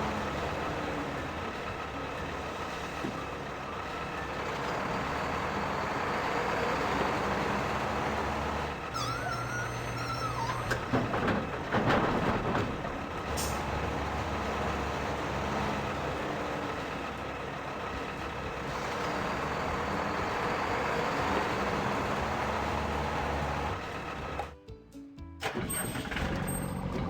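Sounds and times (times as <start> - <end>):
large vehicle engine droning: 0.0 - 24.6, 25.4 - 27.0.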